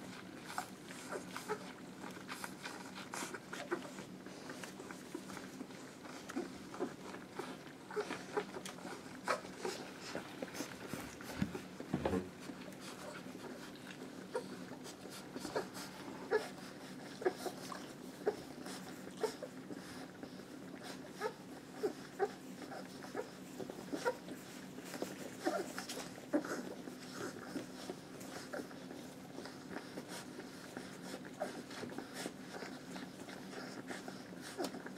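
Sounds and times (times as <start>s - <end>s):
puppies squeaking and grunting: 0.0s - 34.9s.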